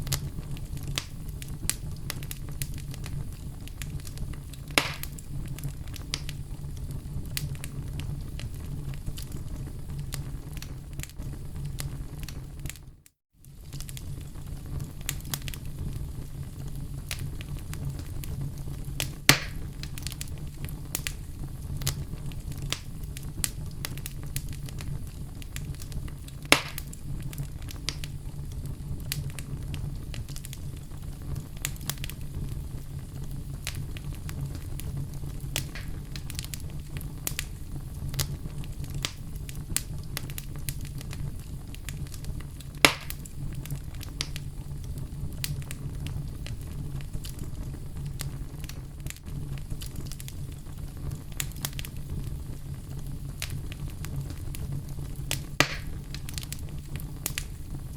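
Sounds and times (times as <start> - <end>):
fire pops: 0.0 - 57.9
low fire rumble: 0.0 - 57.9
wood fire crackling: 0.0 - 57.9.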